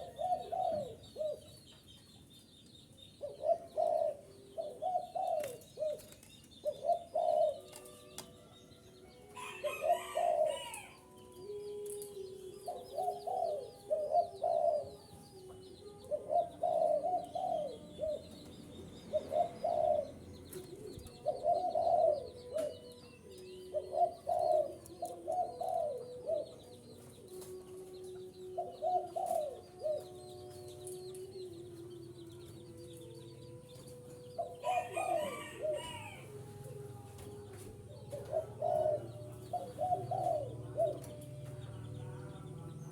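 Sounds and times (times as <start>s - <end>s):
dove cooing: 0.0s - 1.6s, 3.2s - 8.2s, 9.4s - 31.2s, 33.7s - 41.7s
small birds chirping: 0.0s - 42.9s.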